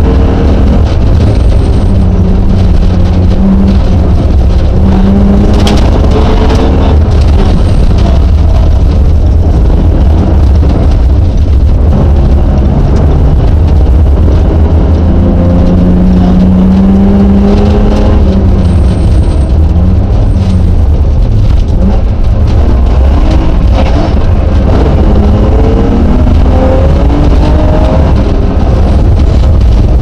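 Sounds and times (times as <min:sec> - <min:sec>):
low rumble of tyres and body: 0:00.0 - 0:30.0
rally car engine revving: 0:00.0 - 0:30.0.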